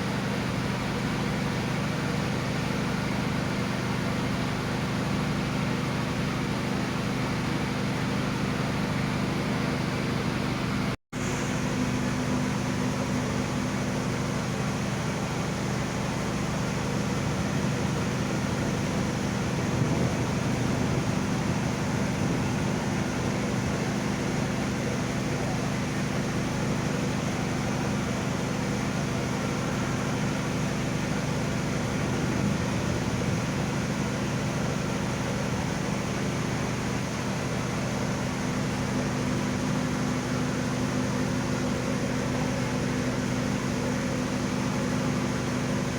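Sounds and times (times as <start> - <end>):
ship engine drone: 0.0 - 45.9.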